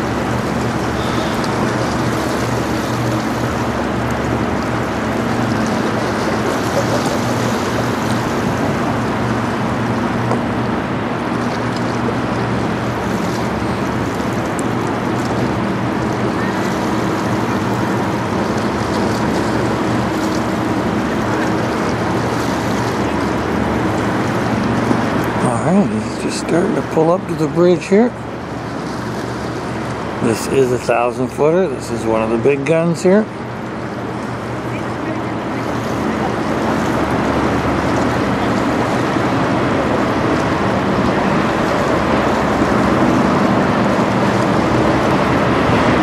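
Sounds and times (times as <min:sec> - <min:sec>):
ship engines droning: 0:00.0 - 0:46.0
water rushing: 0:00.0 - 0:46.0
wind: 0:00.0 - 0:46.0.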